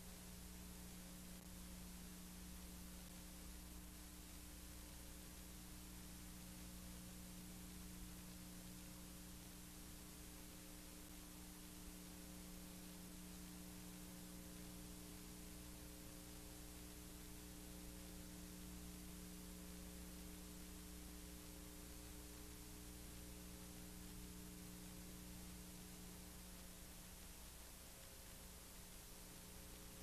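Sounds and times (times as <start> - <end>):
faint electrical hum with hiss: 0.0 - 30.0.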